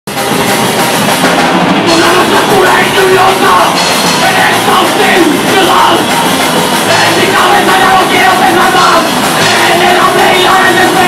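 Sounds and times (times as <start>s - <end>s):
punk rock band playing: 0.1s - 11.0s
sung lead vocal: 1.9s - 11.0s.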